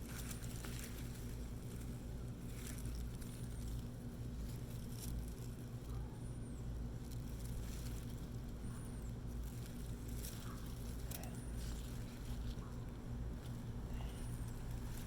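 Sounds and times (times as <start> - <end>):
rustling and snapping of plants: 0.0 - 15.0
steady low hum: 0.0 - 15.0.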